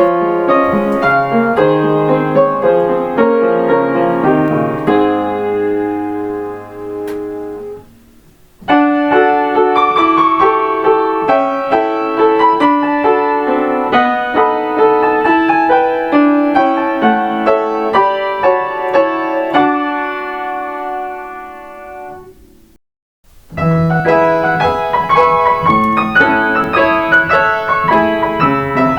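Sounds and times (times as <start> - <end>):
solo piano chime melody: 0.0 - 7.8, 8.7 - 22.4, 23.6 - 28.9.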